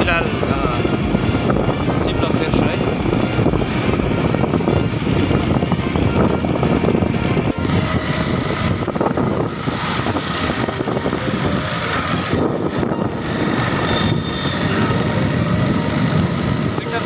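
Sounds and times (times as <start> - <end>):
motorcycle engine: 0.0 - 17.0
wind rumble on microphone: 0.0 - 17.0.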